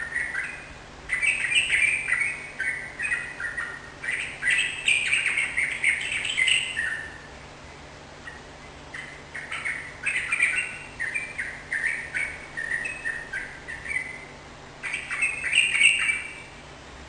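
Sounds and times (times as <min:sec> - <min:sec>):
bird chirping: 0:00.0 - 0:16.6.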